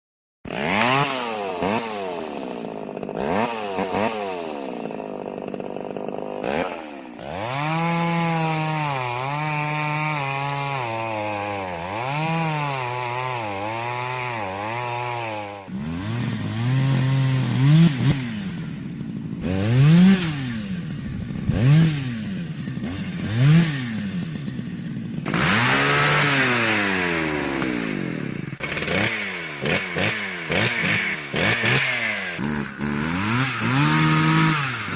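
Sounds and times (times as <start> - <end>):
chainsaw engine revving: 0.5 - 34.9.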